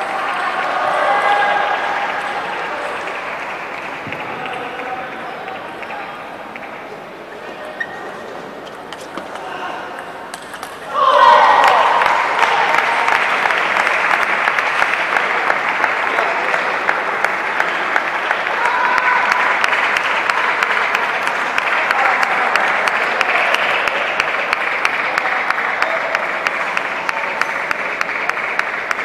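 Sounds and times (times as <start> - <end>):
spectators clapping: 0.0 - 6.8, 11.2 - 29.0.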